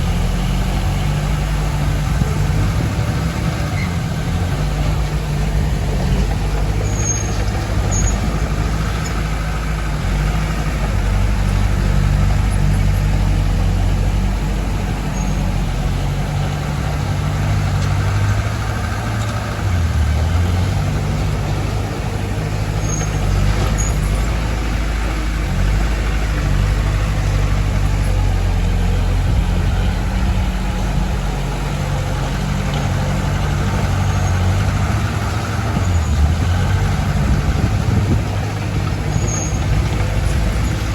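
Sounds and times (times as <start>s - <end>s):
heavy diesel engines droning: 0.0s - 40.9s.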